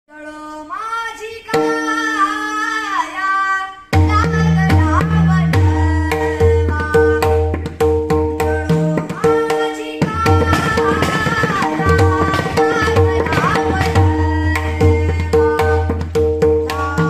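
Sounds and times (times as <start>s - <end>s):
man singing devotional song: 0.1s - 17.0s.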